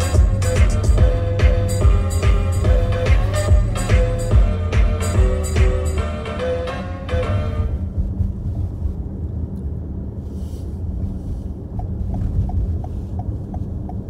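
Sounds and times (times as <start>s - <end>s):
car driving rumble inside cabin: 0.0s - 14.0s.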